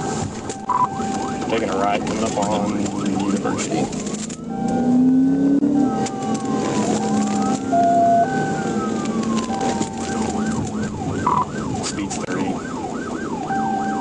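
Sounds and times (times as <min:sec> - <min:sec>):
police siren wailing and yelping: 0:00.0 - 0:14.0
vehicle running noise: 0:00.0 - 0:14.0.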